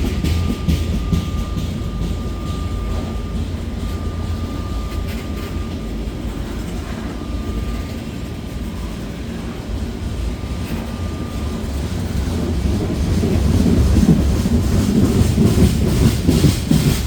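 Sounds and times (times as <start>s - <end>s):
train wheel clicks: 0.0s - 8.8s, 9.4s - 17.0s
freight train rolling past: 0.0s - 17.0s.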